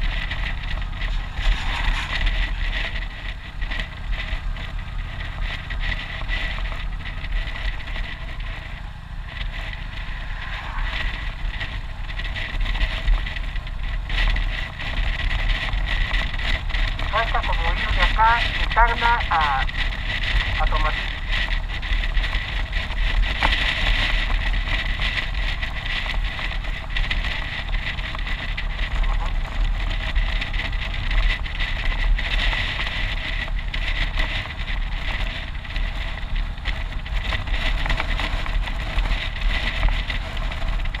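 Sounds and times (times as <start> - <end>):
motorcycle engine running: 0.0 - 41.0
wind buffeting microphone: 0.0 - 41.0.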